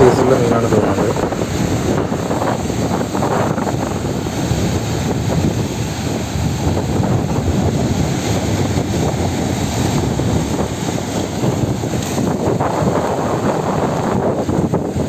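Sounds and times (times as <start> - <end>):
sea surf breaking on rocks: 0.0 - 15.0
wind rumbling on microphone: 0.0 - 15.0.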